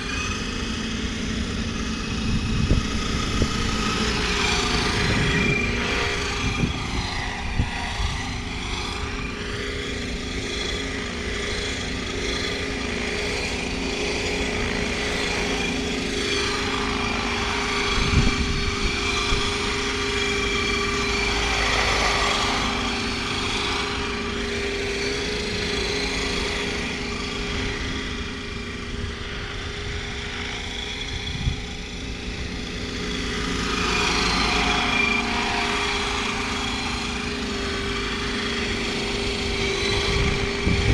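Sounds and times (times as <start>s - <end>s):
turbine-like whine: 0.0s - 40.9s
whirr of rotors: 0.0s - 40.9s.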